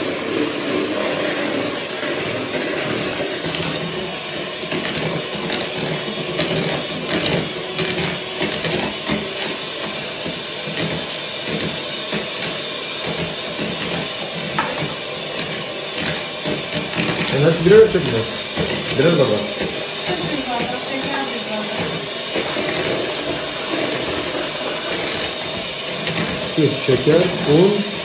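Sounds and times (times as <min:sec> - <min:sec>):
small motor running: 0:00.0 - 0:28.0.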